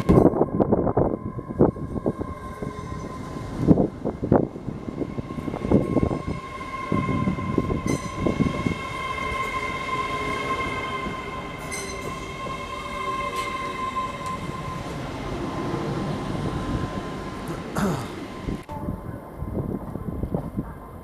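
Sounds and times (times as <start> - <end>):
train high whine: 0.0 - 21.0
train rumble: 0.0 - 21.0.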